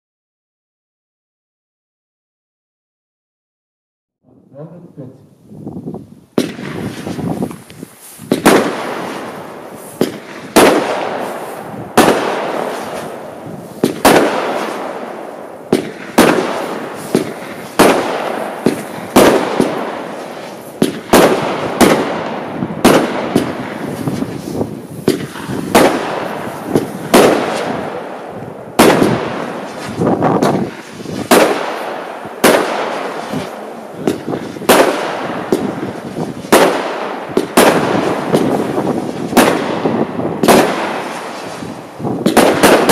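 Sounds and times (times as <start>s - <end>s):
fireworks bangs: 6.3s - 42.9s.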